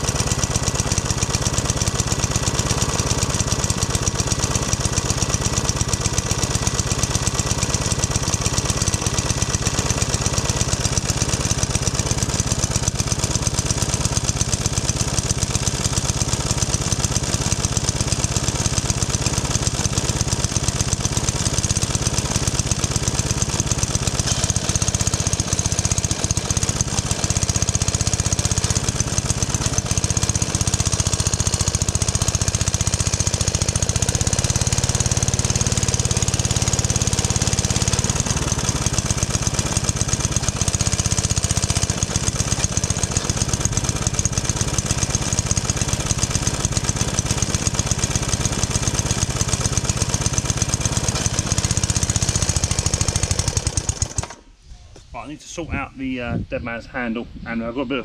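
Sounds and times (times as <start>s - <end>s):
lawnmower engine running: 0.0s - 55.8s.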